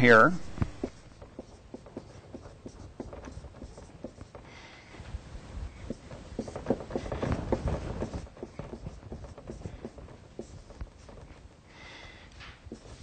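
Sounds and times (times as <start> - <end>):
marker writing on whiteboard: 0.0 - 4.8, 5.6 - 11.4, 12.6 - 13.0.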